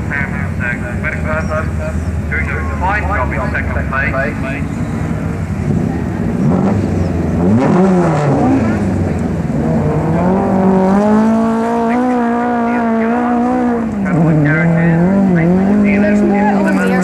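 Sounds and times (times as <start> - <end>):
racing car engine revving: 0.1 - 17.0.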